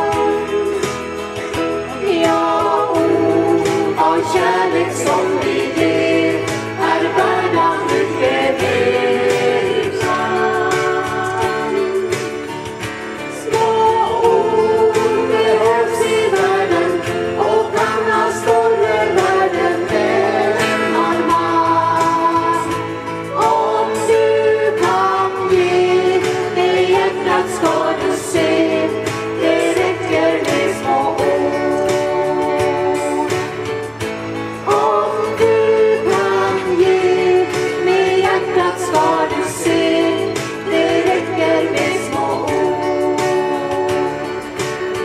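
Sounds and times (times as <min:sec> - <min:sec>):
women singing together: 0:00.0 - 0:33.8, 0:34.6 - 0:44.8
acoustic guitars strumming: 0:00.0 - 0:45.0.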